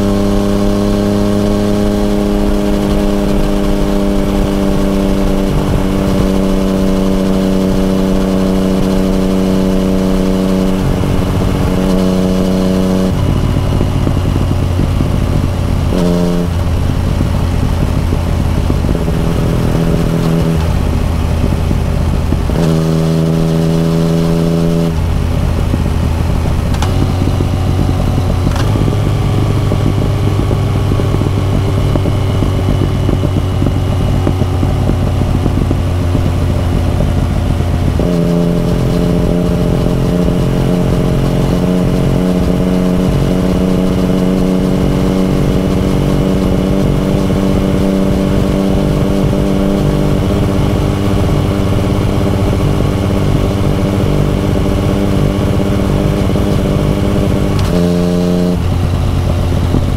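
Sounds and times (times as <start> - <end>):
motorcycle engine cruising: 0.0 - 59.9
wind and road rush: 0.0 - 59.9.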